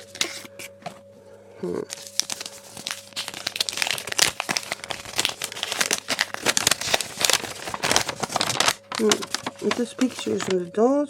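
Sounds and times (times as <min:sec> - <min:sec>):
paper rustling and crinkling: 0:00.0 - 0:01.1, 0:01.9 - 0:10.7.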